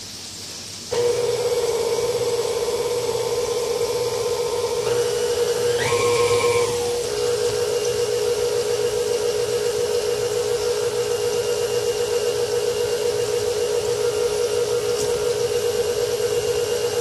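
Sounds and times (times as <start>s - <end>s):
stand mixer motor whining: 0.9s - 17.0s.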